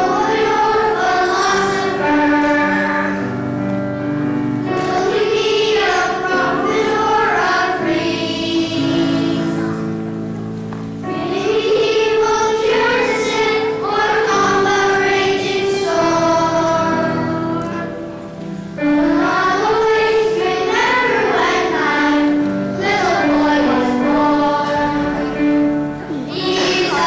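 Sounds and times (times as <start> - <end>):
children's choir singing: 0.0 - 27.0
instrumental accompaniment: 0.0 - 27.0.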